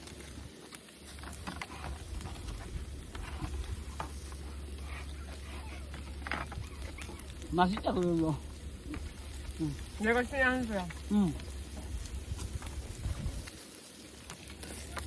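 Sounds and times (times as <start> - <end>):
meat sizzling on a grill: 0.0 - 15.0
steady low hum: 1.2 - 13.5.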